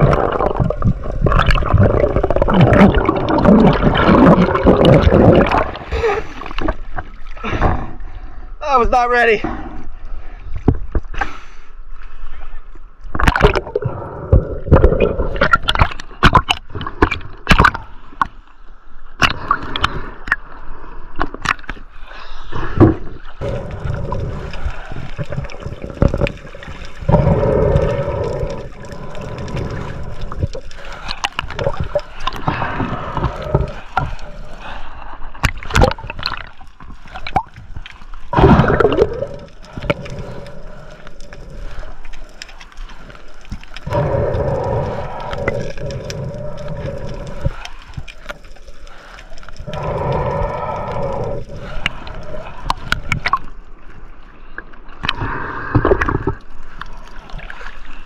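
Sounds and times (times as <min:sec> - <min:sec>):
water rushing and gurgling: 0:00.0 - 0:11.2, 0:19.1 - 0:58.0.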